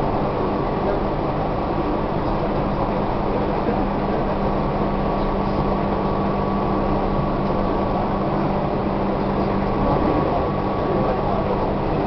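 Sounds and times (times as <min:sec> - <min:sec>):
steady hum: 0:00.0 - 0:12.0
train wheels rumbling on rails: 0:00.0 - 0:12.0.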